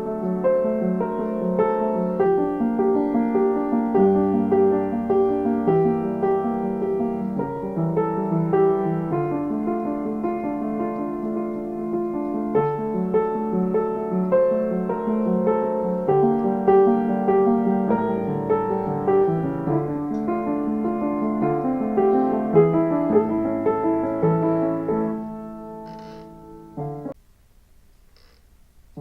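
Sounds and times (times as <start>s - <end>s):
piano music: 0.0s - 27.2s.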